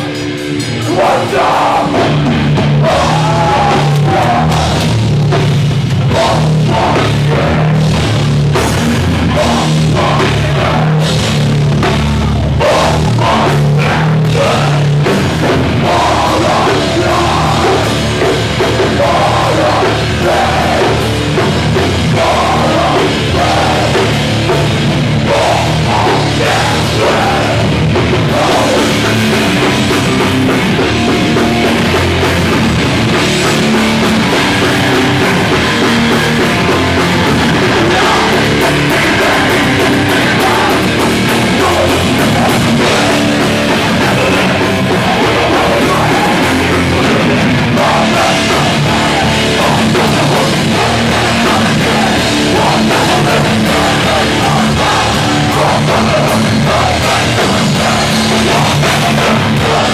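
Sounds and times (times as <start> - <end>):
bass chugging low riff: 0.0 - 59.9
distorted electric guitars: 0.0 - 59.9
fast pounding drums: 0.0 - 59.9.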